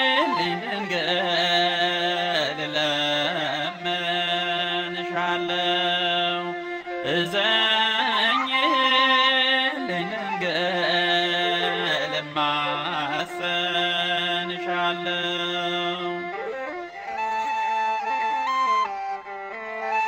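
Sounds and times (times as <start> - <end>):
person singing a hymn: 0.0 - 16.6.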